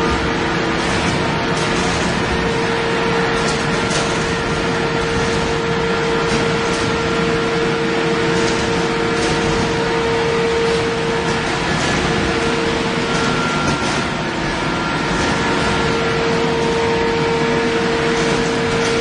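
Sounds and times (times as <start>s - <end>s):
steel rolling machine din: 0.0s - 19.0s.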